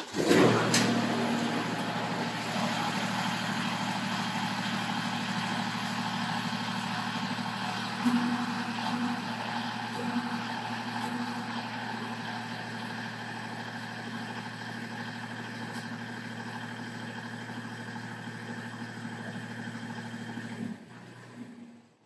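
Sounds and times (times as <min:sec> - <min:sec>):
diesel tractor engine idling: 0:00.0 - 0:21.2.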